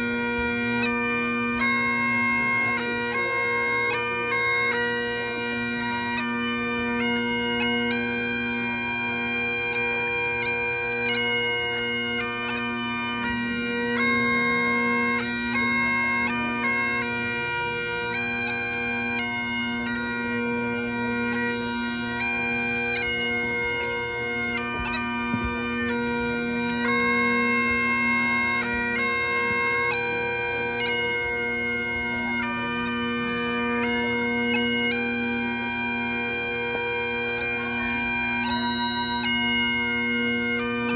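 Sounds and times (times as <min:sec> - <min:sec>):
bagpipe playing a tune: 0:00.0 - 0:40.9.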